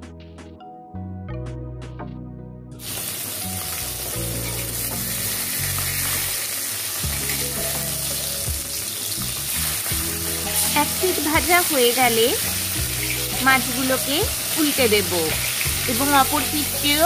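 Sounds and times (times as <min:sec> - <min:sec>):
soft background music: 0:00.0 - 0:17.0
fish sizzling in hot oil: 0:02.8 - 0:17.0.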